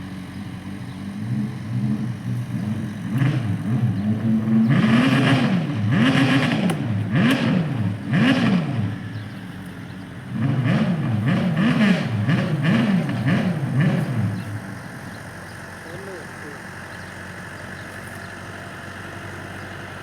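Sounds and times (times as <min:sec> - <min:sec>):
tractor engine revving: 0:00.0 - 0:09.2, 0:10.2 - 0:20.0.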